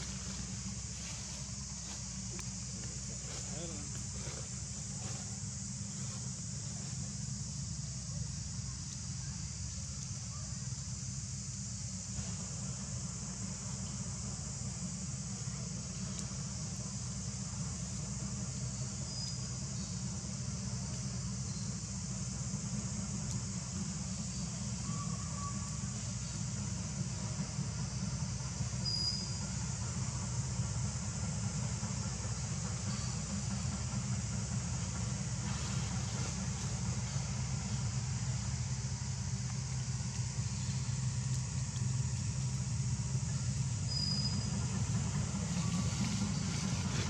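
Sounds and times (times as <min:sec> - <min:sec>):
high even hiss: 0:00.0 - 0:47.0
low engine rumble: 0:00.0 - 0:47.0.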